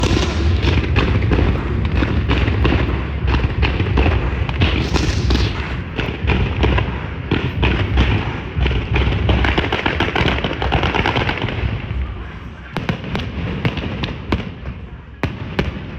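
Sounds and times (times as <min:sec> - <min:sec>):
low rumble: 0:00.0 - 0:12.8
fireworks bangs and crackles: 0:00.0 - 0:15.9.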